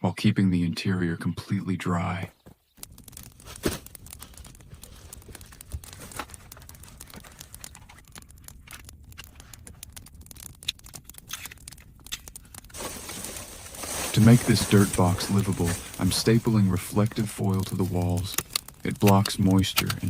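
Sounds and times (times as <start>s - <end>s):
faint rustle: 2.7s - 20.0s
light clicks and taps: 2.8s - 12.8s, 13.9s - 20.0s.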